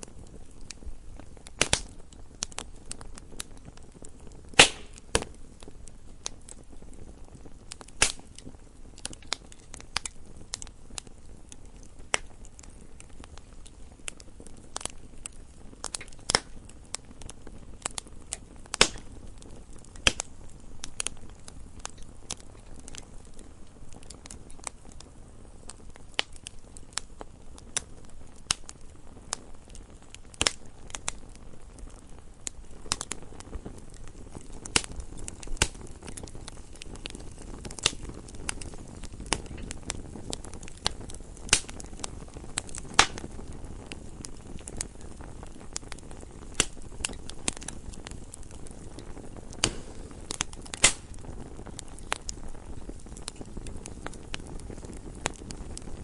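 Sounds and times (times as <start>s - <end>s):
campfire crackles and pops: 0.0s - 56.0s
low rumble of flames: 0.0s - 56.0s.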